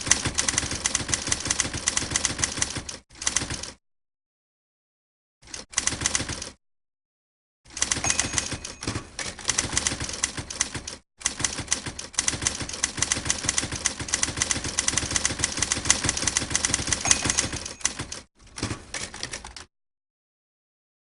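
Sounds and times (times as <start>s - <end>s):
typewriter typing: 0.0s - 3.8s, 5.4s - 6.6s, 7.7s - 19.7s.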